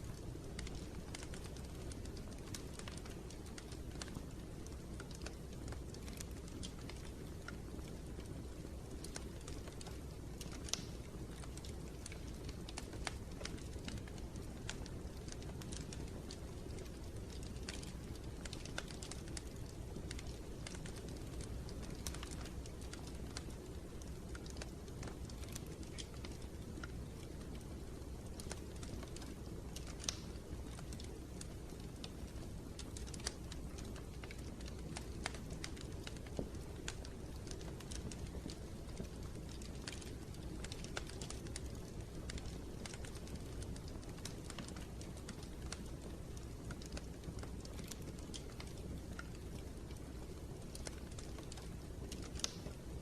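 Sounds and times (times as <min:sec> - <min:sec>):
low fire rumble: 0:00.0 - 0:53.0
wood fire crackling: 0:00.0 - 0:53.0.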